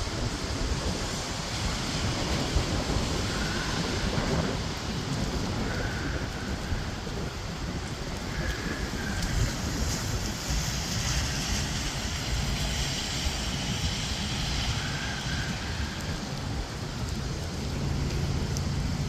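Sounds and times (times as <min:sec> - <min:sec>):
steady rain: 0:00.0 - 0:19.0
wind rumbling on microphone: 0:00.0 - 0:19.0.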